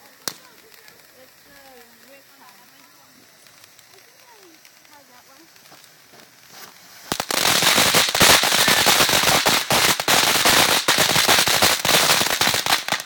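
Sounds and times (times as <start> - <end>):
firework cracks and pops: 0.0 - 13.0.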